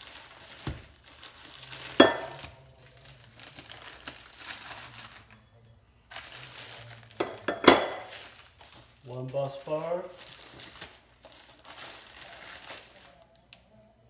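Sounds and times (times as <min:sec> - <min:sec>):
plastic bags crinkling: 0:00.0 - 0:13.5.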